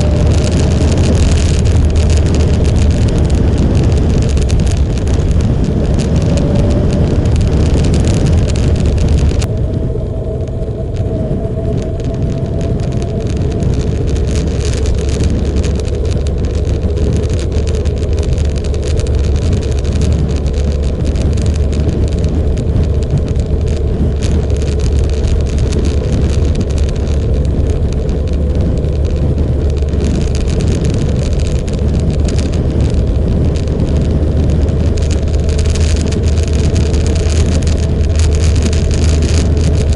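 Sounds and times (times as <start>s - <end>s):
faint whine: 0.0s - 39.9s
motorcycle engine drone: 0.0s - 39.9s
rushing noise: 0.0s - 39.9s.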